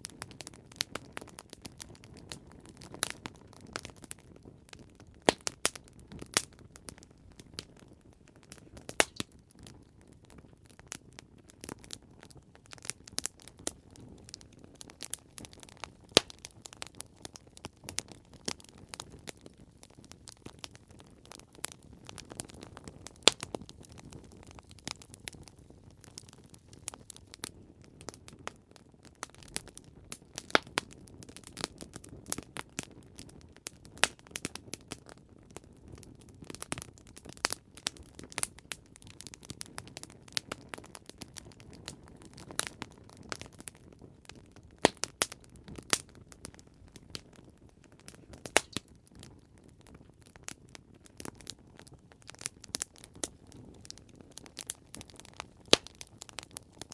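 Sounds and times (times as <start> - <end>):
campfire snaps and pops: 0.0 - 56.9
fire soft low hiss: 0.0 - 56.9.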